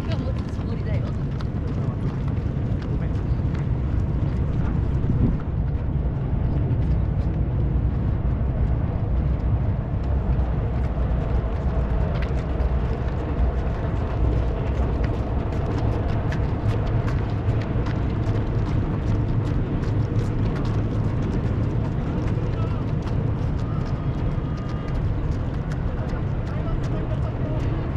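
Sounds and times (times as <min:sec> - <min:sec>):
footsteps on pavement: 0:00.0 - 0:27.9
steady low rumble: 0:00.0 - 0:27.9.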